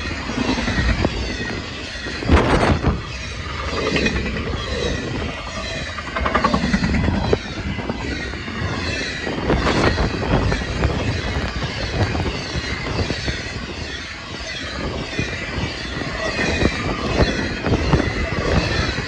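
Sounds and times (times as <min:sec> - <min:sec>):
freight train passing at speed: 0:00.0 - 0:19.0
steel wheels clattering on rails: 0:00.0 - 0:19.0.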